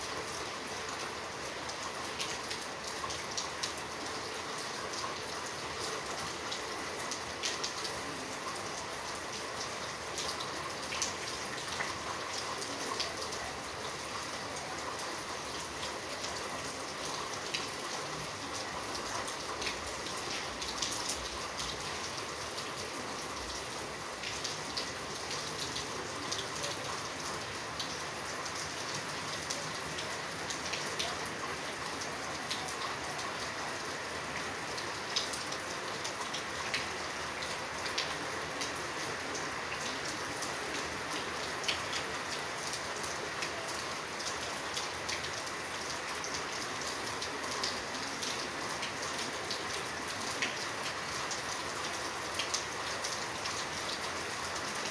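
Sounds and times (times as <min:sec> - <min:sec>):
steady rainfall hiss: 0:00.0 - 0:54.9
raindrops ticking on surface: 0:00.1 - 0:54.9.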